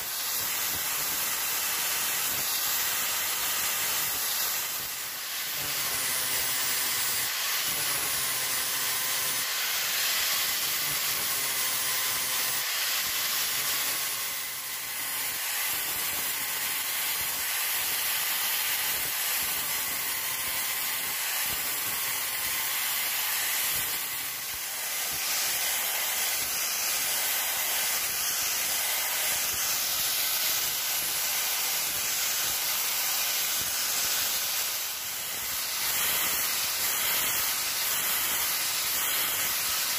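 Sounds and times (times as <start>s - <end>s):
grinder motor whine: 0.0s - 39.9s
sanding disc hissing on wood: 0.0s - 39.9s.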